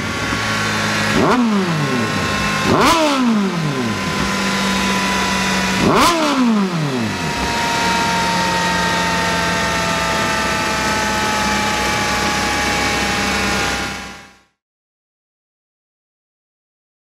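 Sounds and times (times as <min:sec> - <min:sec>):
motorcycle engine revving and idling: 0:00.0 - 0:14.6.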